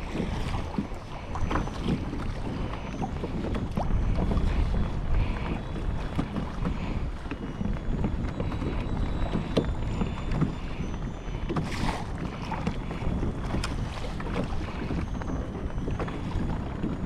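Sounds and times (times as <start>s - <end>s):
water slapping against hull: 0.0s - 17.0s
wind buffeting microphone: 0.0s - 17.0s.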